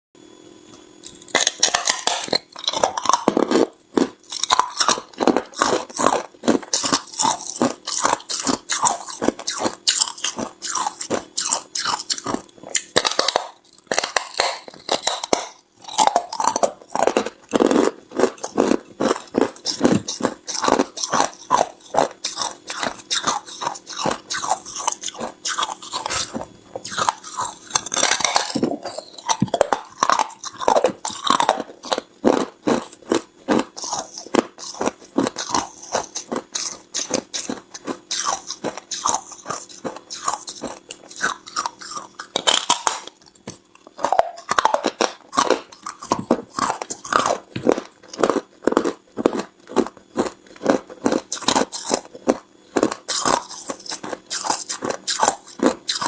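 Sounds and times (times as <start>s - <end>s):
person crunching ice: 1.0s - 56.0s.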